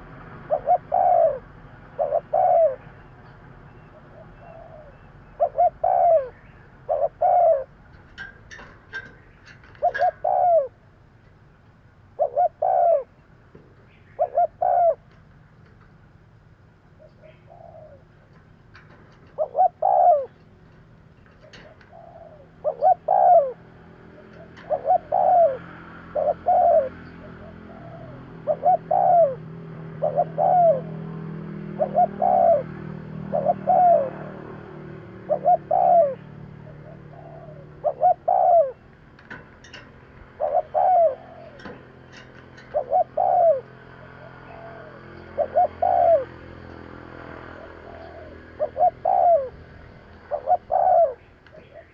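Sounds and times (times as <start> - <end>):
dove cooing: 0.0 - 10.9, 12.0 - 13.2, 13.9 - 15.4, 16.9 - 51.9.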